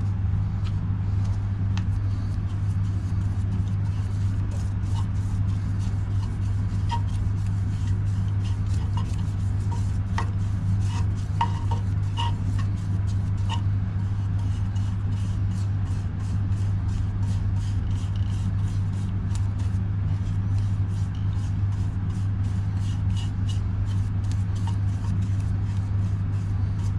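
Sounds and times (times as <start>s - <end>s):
brush on turning bowl: 1.7s - 26.9s.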